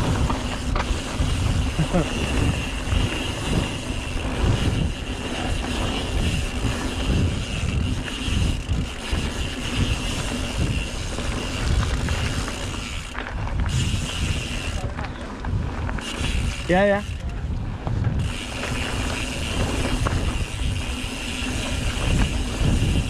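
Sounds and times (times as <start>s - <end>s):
bike rattling over bumps: 0.0s - 23.0s
bike tyres rolling on trail: 0.0s - 23.0s
wind buffeting microphone: 0.0s - 23.0s.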